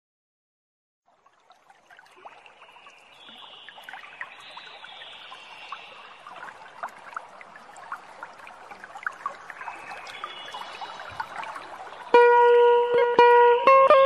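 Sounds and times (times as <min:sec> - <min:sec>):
water trickling and dripping: 0:01.1 - 0:14.0.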